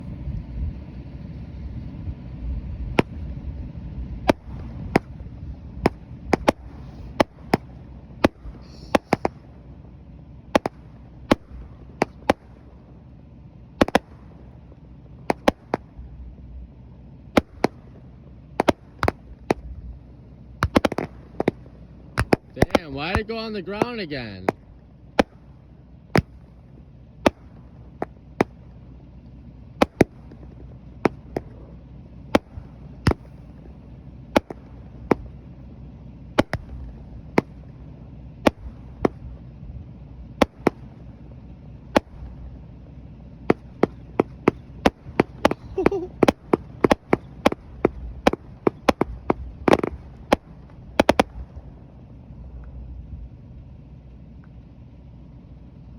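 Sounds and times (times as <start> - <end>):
firecrackers popping: 2.9 - 3.4, 4.2 - 52.8.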